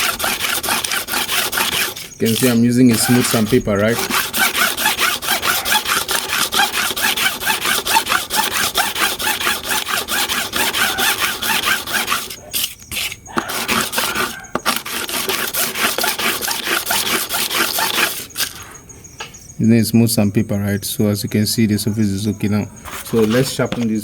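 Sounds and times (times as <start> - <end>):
metal blade scraping on sandpaper: 0.0 - 18.7, 22.9 - 24.0.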